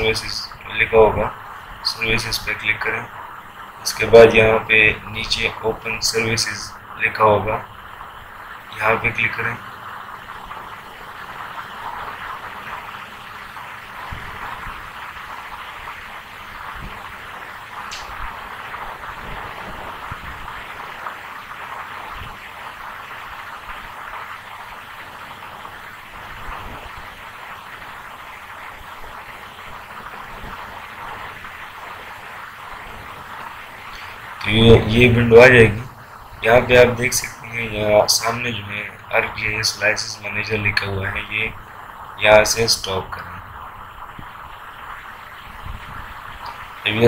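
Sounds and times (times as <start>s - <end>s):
microphone background hiss: 0.0s - 47.0s.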